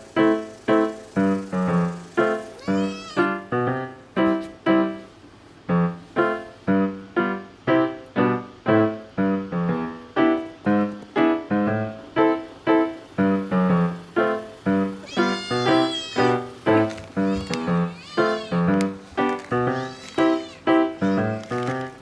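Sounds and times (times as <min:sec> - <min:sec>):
light piano melody: 0:00.0 - 0:22.0.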